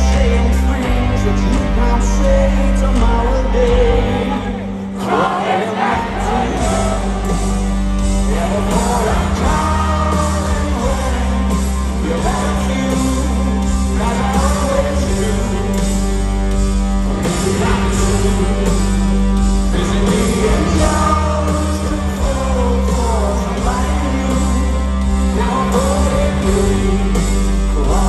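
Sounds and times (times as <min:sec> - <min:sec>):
man singing: 0:00.0 - 0:16.2, 0:17.1 - 0:19.1, 0:19.7 - 0:28.0
bass line: 0:00.0 - 0:28.0
live rock band playing: 0:00.0 - 0:28.0.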